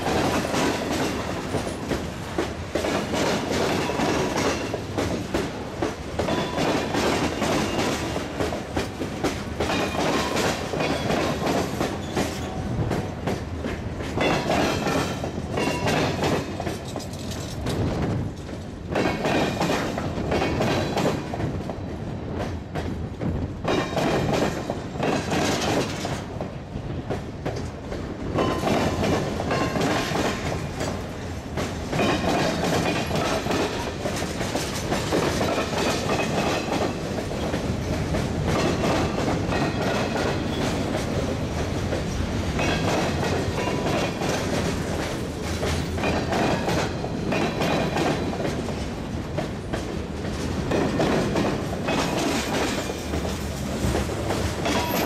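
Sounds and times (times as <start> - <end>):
wheels clicking over rail joints: 0.0 - 55.0.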